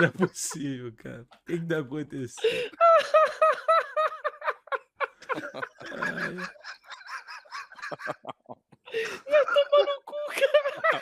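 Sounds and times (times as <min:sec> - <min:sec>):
man laughing hard: 0:00.0 - 0:00.6, 0:02.4 - 0:11.0.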